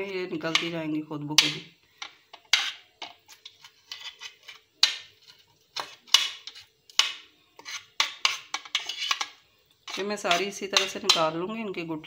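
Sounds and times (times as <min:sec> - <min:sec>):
spoon and knife scraping a plate: 0:01.4 - 0:11.3.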